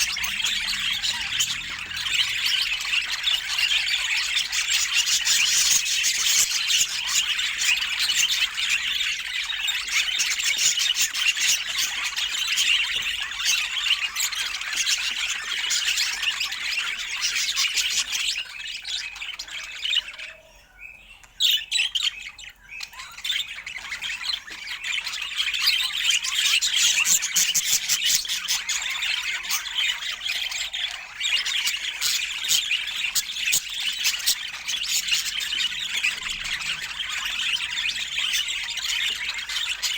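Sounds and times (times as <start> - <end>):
budgerigars chattering: 0.0 - 20.5, 21.2 - 39.9.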